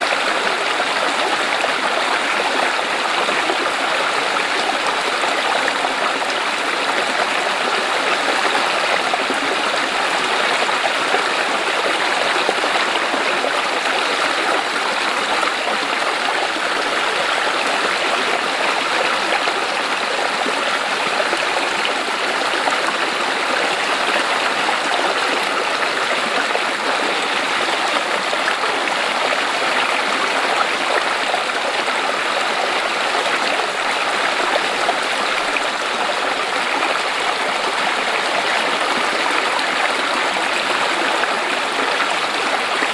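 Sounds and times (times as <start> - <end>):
stream splashing over rocks: 0.0 - 42.9.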